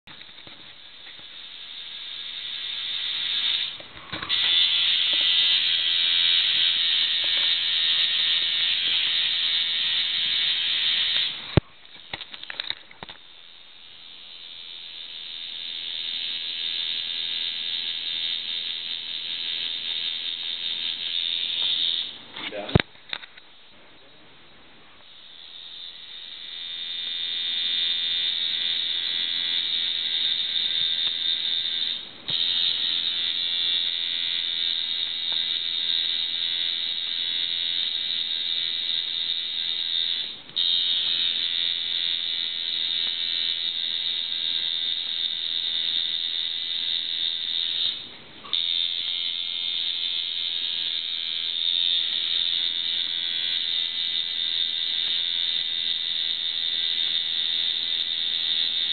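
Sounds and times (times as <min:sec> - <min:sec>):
tattoo machine buzzing: 0:00.1 - 0:22.7, 0:25.0 - 0:58.9.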